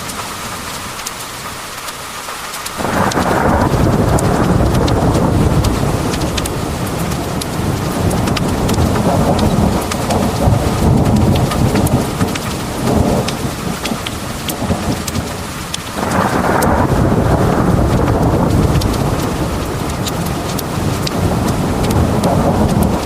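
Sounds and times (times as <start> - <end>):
heavy rain pouring: 0.0 - 23.0
sharp drip ticks: 0.0 - 23.0
deep thunder rumble: 2.8 - 23.0.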